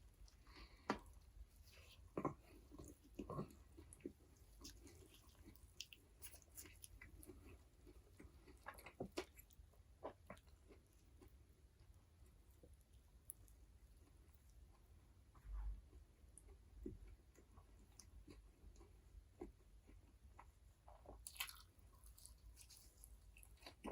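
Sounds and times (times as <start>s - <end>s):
close chewing mouth sounds: 0.0s - 23.9s.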